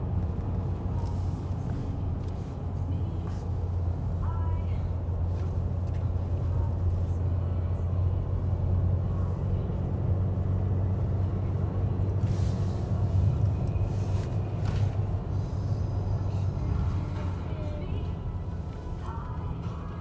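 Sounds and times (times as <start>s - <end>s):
car engine and tyre drone: 0.0s - 20.0s.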